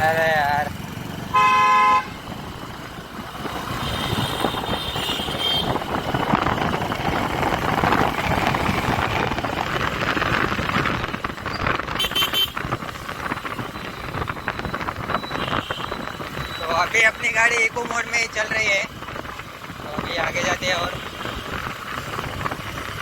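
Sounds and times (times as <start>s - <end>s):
motorcycle road and wind noise: 0.0s - 23.0s.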